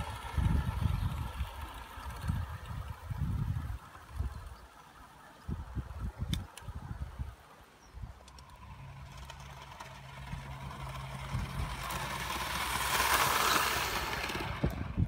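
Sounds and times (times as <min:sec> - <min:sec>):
miniature locomotive passing: 0:00.0 - 0:15.0.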